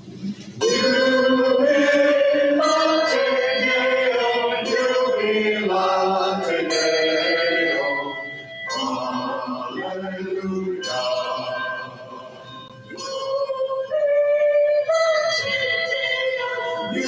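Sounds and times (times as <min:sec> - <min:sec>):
choir singing a hymn: 0:00.6 - 0:17.0.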